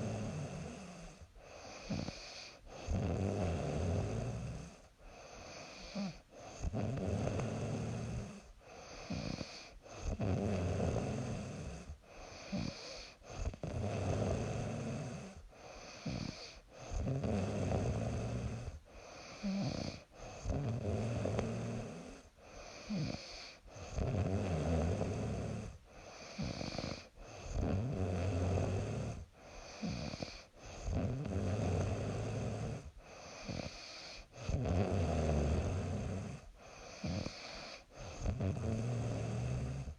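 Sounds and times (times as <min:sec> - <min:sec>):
woman snoring: 0:00.0 - 0:39.9.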